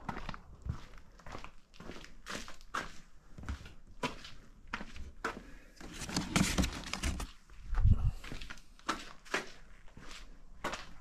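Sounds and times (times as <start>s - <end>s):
footsteps on concrete: 0.0s - 11.0s.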